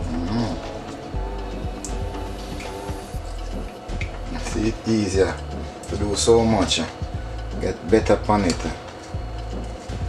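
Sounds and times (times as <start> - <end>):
background music with held tones: 0.0 - 10.0.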